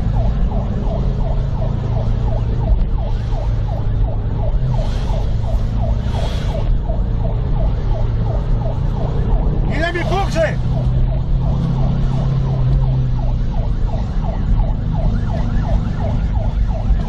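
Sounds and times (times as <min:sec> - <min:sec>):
car engine and road rumble: 0:00.0 - 0:17.0
police siren yelping: 0:00.0 - 0:17.0.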